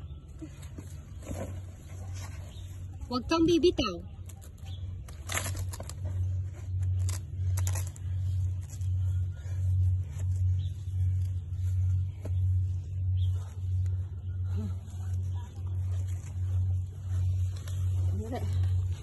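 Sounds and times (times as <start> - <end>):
climbing rope rustling and scraping: 0.0 - 19.0
low pulsing hum: 0.0 - 19.0.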